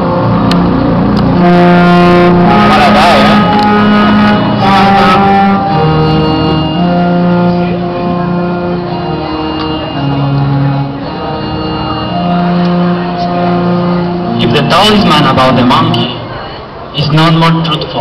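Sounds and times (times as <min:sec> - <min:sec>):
slow sustained chords music: 0:00.0 - 0:16.7.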